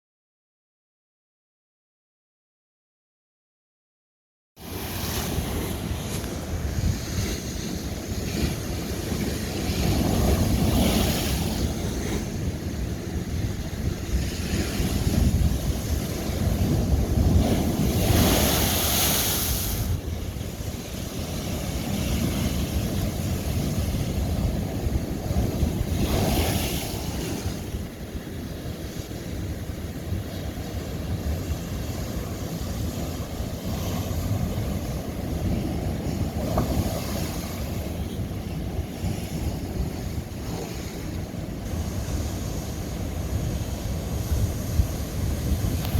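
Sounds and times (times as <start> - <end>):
ocean waves crashing on rock: 4.6 - 45.9.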